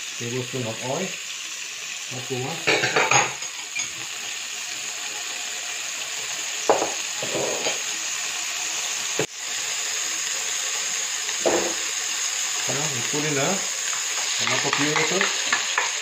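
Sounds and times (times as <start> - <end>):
oil sizzling in a frying pan: 0.0 - 16.0.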